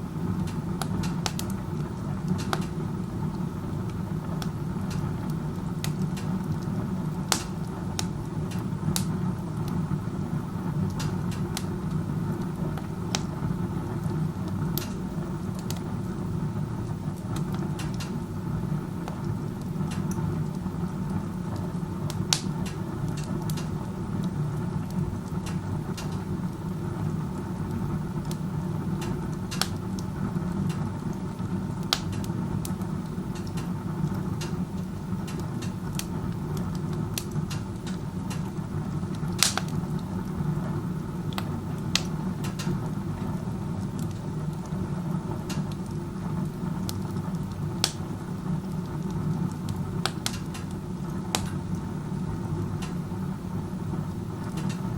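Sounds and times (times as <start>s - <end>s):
burning wood crackling: 0.0s - 54.9s
fire rumbling in stove: 0.0s - 54.9s.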